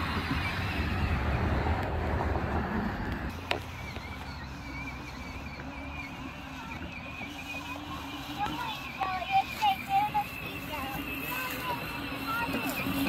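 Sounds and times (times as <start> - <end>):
electric toy motor whine: 0.0 - 13.0.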